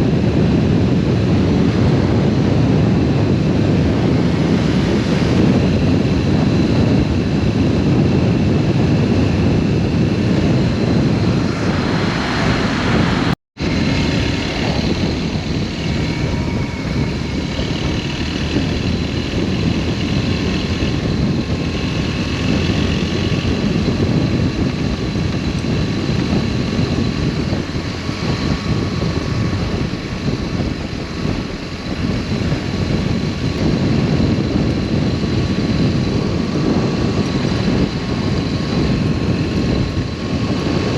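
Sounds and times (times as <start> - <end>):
motorcycle engine drone: 0.0 - 40.9
wind rushing: 0.0 - 40.9.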